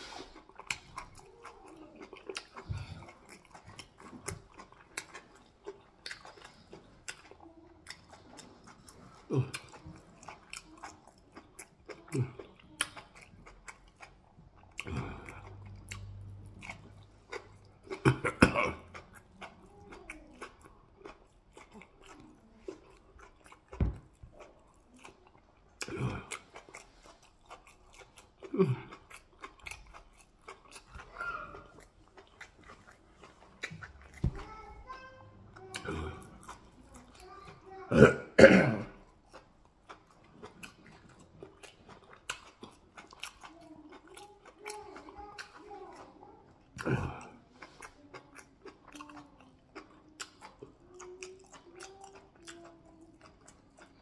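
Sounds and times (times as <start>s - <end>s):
wet chewing and lip smacking: 0.0s - 37.7s, 39.0s - 54.0s.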